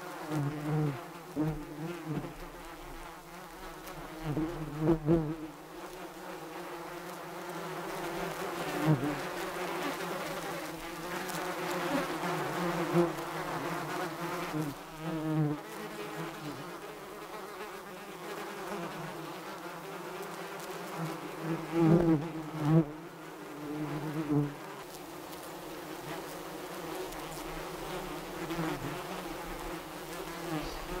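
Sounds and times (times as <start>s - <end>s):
honeybees buzzing: 0.0s - 31.0s.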